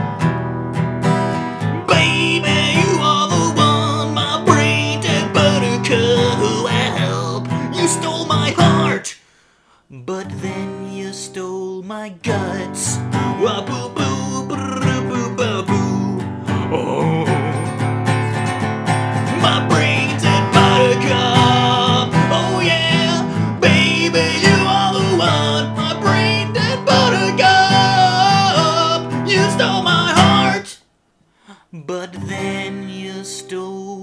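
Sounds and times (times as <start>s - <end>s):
strummed acoustic guitar: 0.0s - 9.2s, 10.1s - 30.8s, 32.0s - 33.9s.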